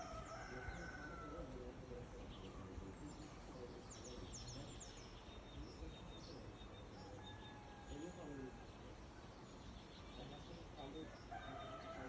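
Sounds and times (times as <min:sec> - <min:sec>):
outdoor ambience hiss: 0:00.0 - 0:12.0
small birds chirping: 0:00.0 - 0:12.0.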